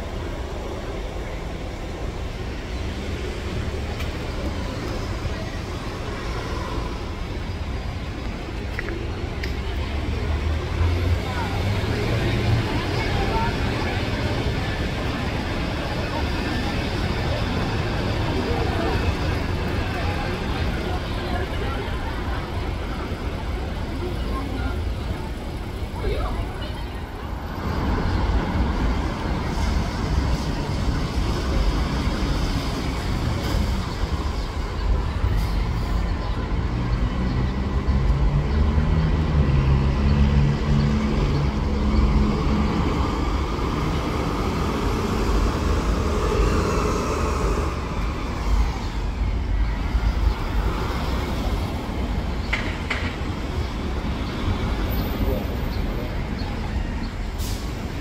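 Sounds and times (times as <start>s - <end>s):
bus engine: 0.0s - 58.0s
buses and traffic rumble: 0.0s - 58.0s.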